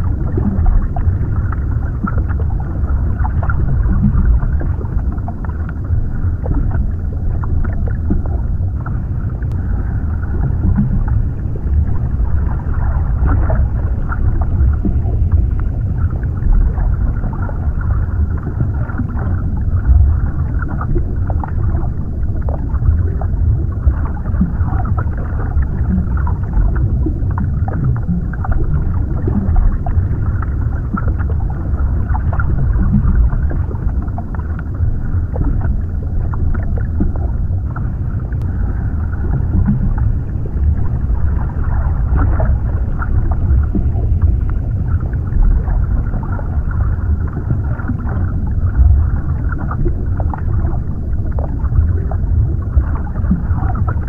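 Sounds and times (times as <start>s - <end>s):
deep underwater rumble: 0.0s - 54.0s.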